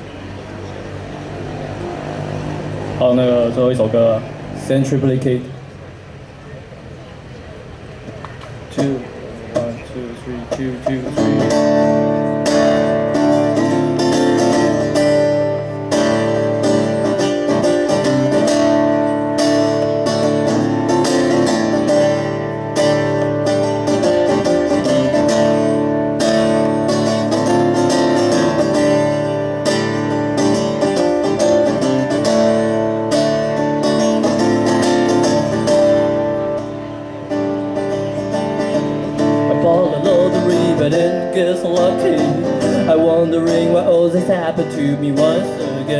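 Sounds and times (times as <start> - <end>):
guitar strumming: 8.5 - 45.9.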